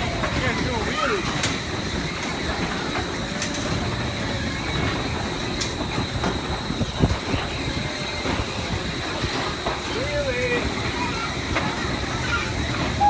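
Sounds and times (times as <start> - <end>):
ride mechanical rumble and rattle: 0.0 - 13.0.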